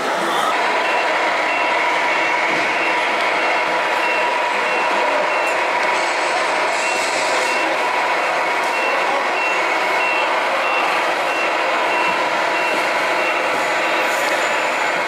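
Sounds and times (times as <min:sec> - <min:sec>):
steady background noise: 0:00.0 - 0:15.0
reverse warning beeps: 0:00.6 - 0:15.0.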